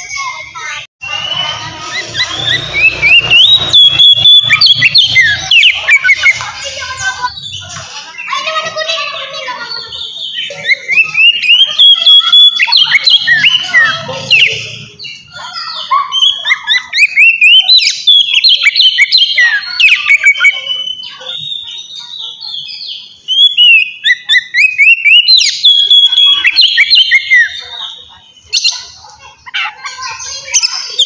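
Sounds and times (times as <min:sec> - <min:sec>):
magpie-robin singing: 0:01.0 - 0:31.0.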